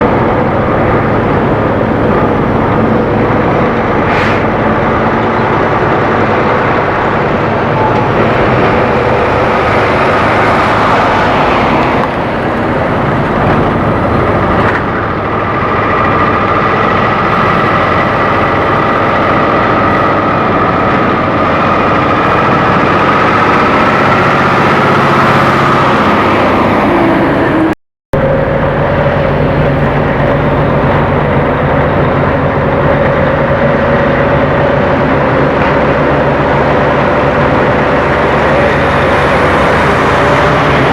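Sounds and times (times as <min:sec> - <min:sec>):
diesel truck engines: 0:00.0 - 0:40.9.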